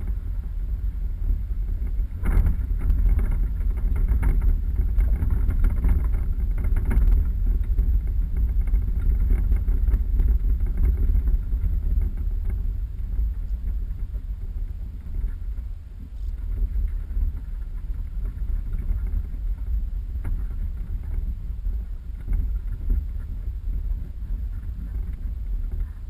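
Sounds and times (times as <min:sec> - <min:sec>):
vehicle driving off-road: 0:00.0 - 0:26.0.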